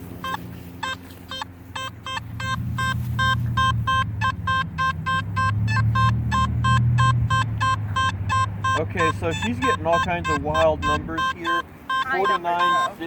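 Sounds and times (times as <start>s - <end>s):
metal detector beeping: 0.0s - 13.0s.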